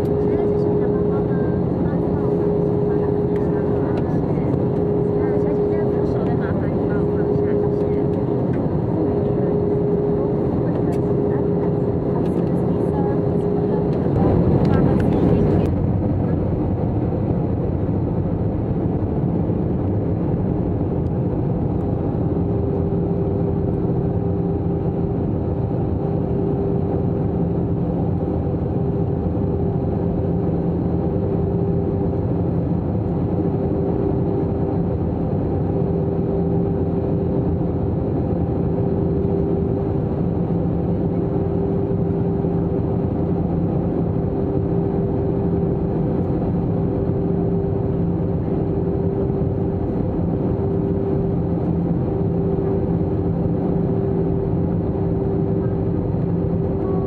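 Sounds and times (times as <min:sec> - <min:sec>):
airplane cabin engine rush: 0:00.0 - 0:57.0
constant low hum: 0:00.0 - 0:57.0.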